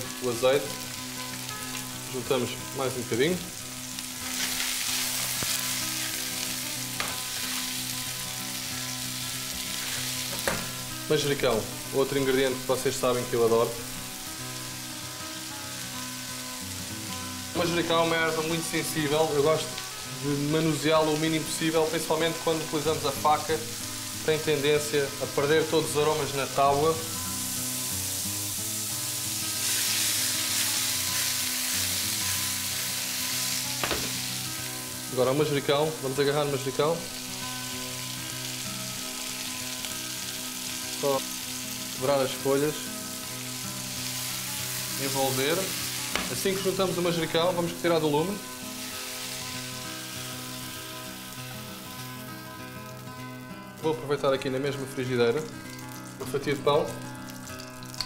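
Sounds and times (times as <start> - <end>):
vegetables sizzling in frying pan: 0.0 - 53.2, 55.4 - 58.0.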